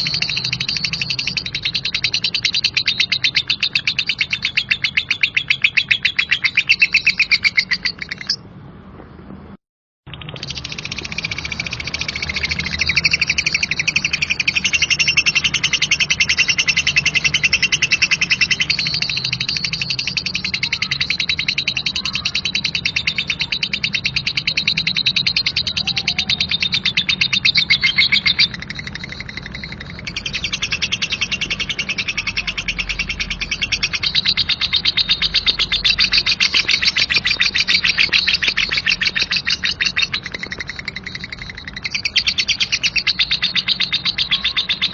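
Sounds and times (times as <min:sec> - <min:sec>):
lovebird chattering: 0:00.0 - 0:08.5, 0:10.1 - 0:44.9.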